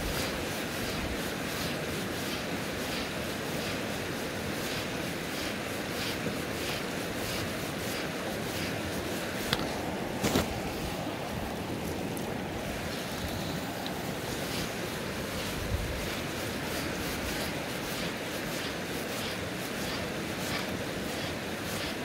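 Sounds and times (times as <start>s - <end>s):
river flowing: 0.0s - 22.0s.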